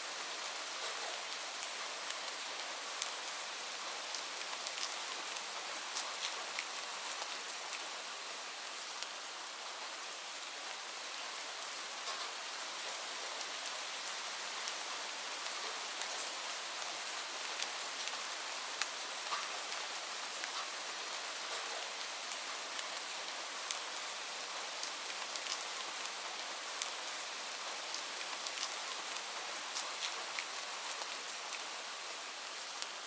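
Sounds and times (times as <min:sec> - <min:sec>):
rain falling on leaves: 0:00.0 - 0:33.0.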